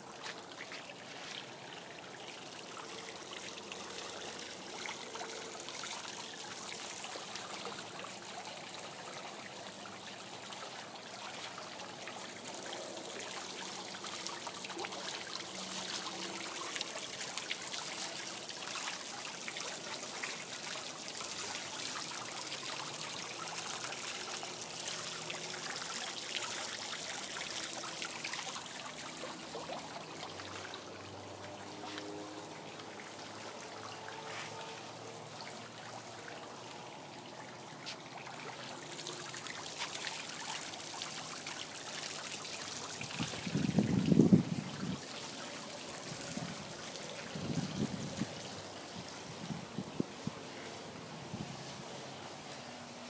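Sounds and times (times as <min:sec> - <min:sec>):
trickle of running water: 0:00.0 - 0:53.0.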